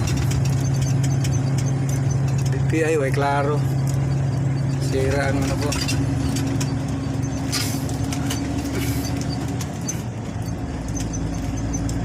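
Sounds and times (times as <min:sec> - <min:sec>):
light clicks and rattles: 0:00.0 - 0:04.1, 0:04.8 - 0:12.0
diesel truck engine running: 0:00.0 - 0:12.0.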